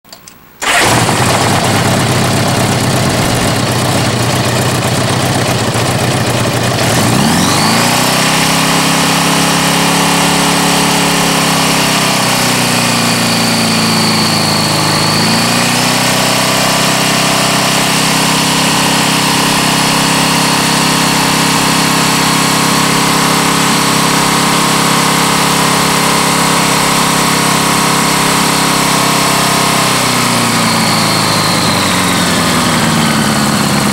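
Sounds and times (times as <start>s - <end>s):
motorcycle engine revving: 0.6s - 33.9s.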